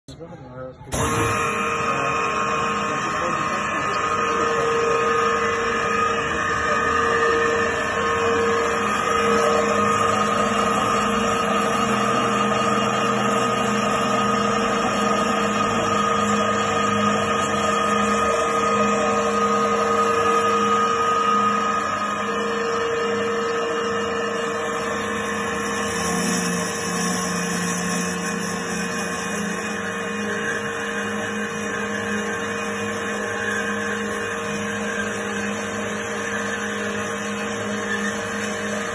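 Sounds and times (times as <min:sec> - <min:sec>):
band saw running: 0:00.9 - 0:38.9.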